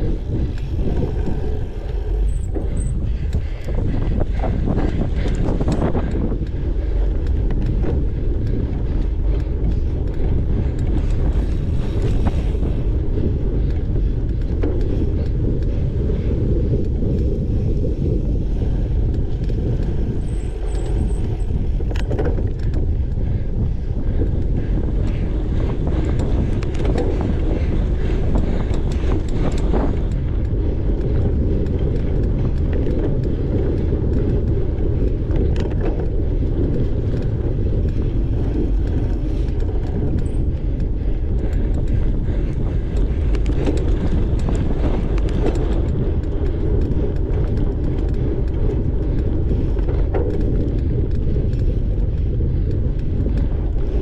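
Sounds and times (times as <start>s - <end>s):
bike rattles and clicks: 0.0s - 54.0s
bike tyre rumble on dirt: 0.0s - 54.0s
wind rush on microphone: 0.0s - 54.0s.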